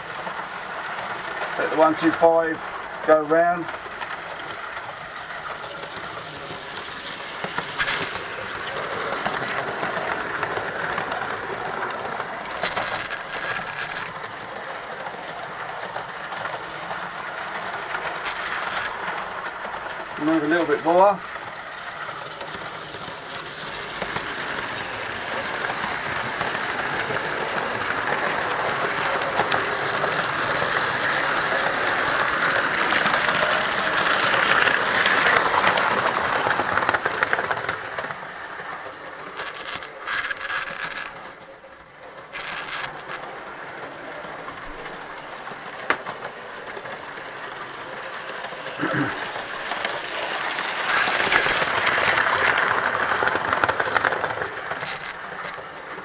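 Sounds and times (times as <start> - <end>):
model train passing: 0.0 - 56.0
model train rattling on rails: 0.0 - 56.0.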